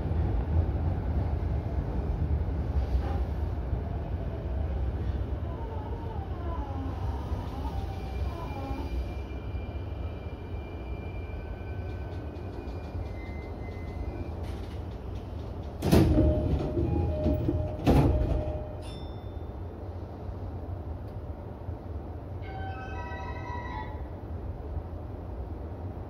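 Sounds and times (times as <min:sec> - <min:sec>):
train low steady hum: 0:00.0 - 0:26.0.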